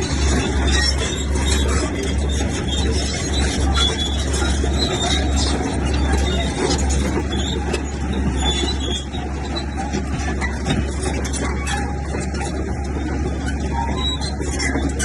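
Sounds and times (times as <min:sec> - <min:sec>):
diesel machinery engine drone: 0:00.0 - 0:15.0.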